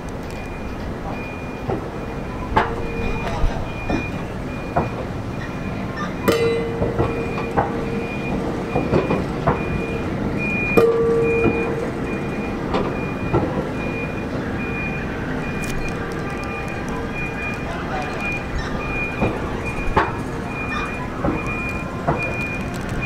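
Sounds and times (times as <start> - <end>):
train wheels rolling on rail: 0.0 - 23.0
wheel squeals: 0.0 - 23.0
backup alarm beeping: 0.2 - 23.0.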